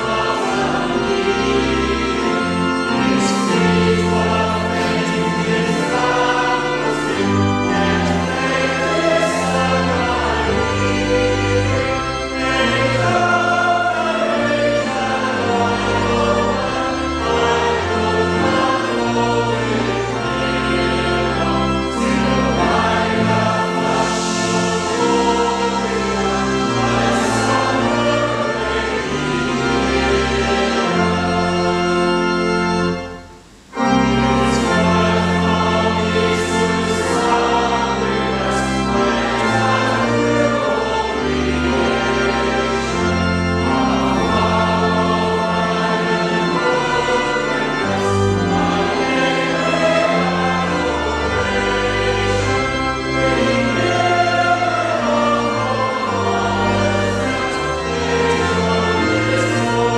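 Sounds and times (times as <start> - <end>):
choir singing a hymn: 0.0 - 59.9
organ accompaniment: 0.0 - 59.9.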